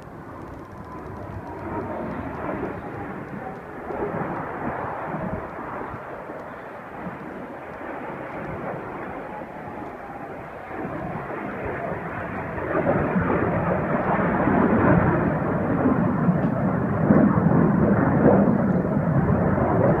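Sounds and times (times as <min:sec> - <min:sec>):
jet engine roar overhead: 0:00.0 - 0:20.0.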